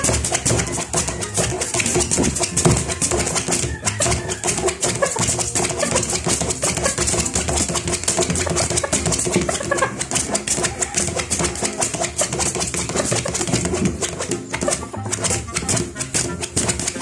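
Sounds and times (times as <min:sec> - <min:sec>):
claws scratching on tabletop: 0:00.0 - 0:17.0
wings flapping: 0:00.0 - 0:17.0.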